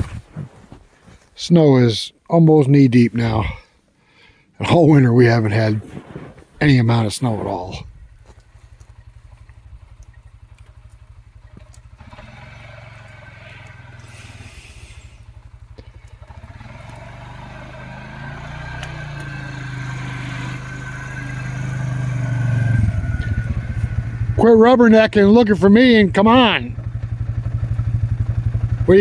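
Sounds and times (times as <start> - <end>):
atv engine running: 0.0 - 1.2, 5.9 - 29.0.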